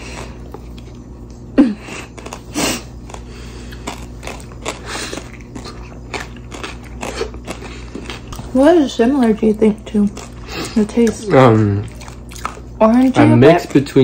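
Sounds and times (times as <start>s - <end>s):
chewing crunchy seeds: 0.0s - 14.0s.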